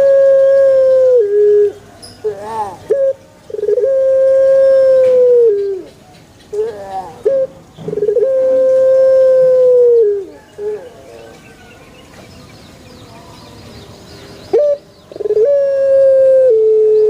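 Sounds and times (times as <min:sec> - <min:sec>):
dove cooing: 0:00.0 - 0:11.8, 0:14.5 - 0:17.0
small birds chirping faintly: 0:00.6 - 0:15.9.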